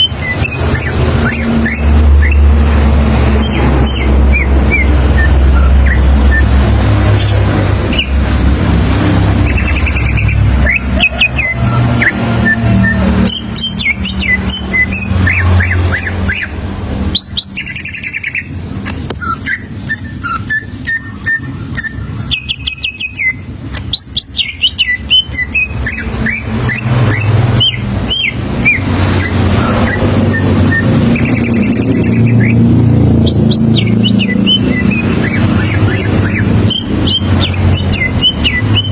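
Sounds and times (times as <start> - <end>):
bird singing whistled notes: 0.0 - 2.6, 3.2 - 8.2, 9.4 - 16.5, 17.1 - 18.5, 19.2 - 38.9.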